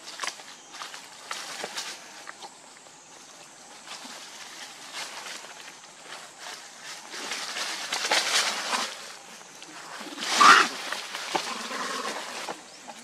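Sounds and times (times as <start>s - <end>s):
leaves rustling and crunching: 0.0s - 13.0s.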